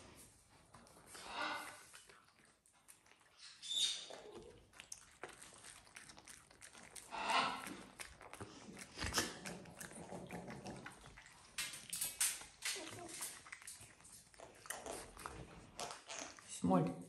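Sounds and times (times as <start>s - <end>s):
faint clicks and rustles: 0.0s - 16.6s.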